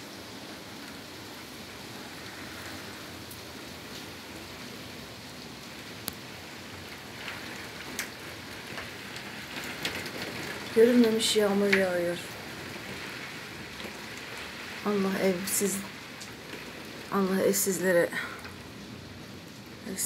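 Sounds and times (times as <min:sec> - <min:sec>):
torrential rain hissing: 0:00.0 - 0:20.0.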